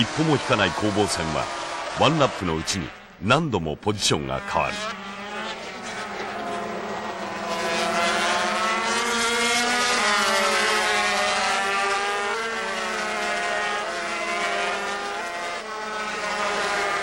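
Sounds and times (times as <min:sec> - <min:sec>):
racing motorcycle engines: 0:00.0 - 0:17.0.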